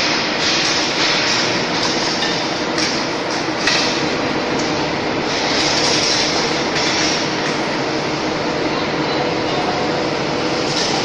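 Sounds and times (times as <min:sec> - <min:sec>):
industrial machinery noise: 0:00.0 - 0:11.0.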